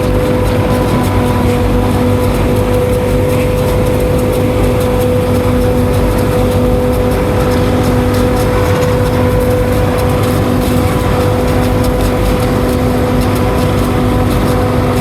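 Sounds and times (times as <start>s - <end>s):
tractor and harvester droning: 0.0s - 15.0s.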